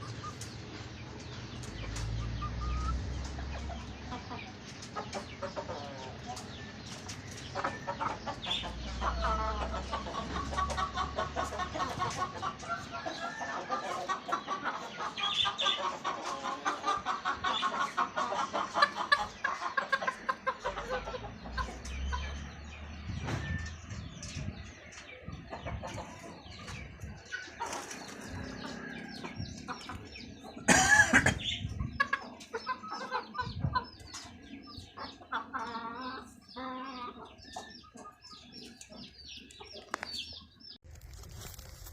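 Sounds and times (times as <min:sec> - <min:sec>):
chickens clucking: 0:00.0 - 0:40.8.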